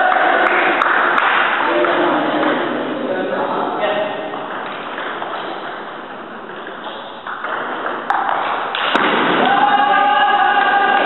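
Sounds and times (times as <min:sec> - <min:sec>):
voices in echoing hall: 0:00.0 - 0:11.0.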